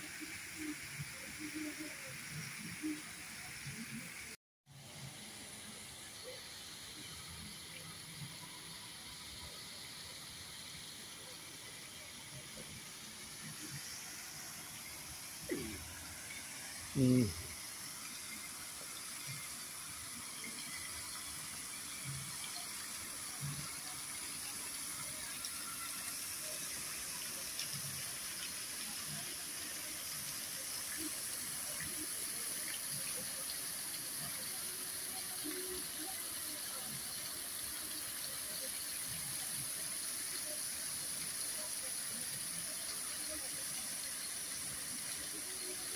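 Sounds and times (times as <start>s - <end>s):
fountain water splashing into pool: 0.0s - 45.9s.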